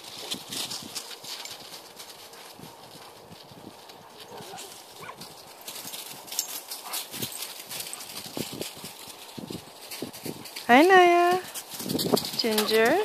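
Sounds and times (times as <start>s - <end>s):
footsteps crunching through snow: 0.0s - 13.0s.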